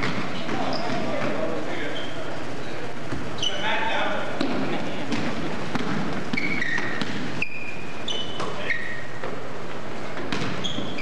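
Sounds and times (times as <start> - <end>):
sneakers squeaking on gym floor: 0.0 - 2.3, 3.1 - 11.0.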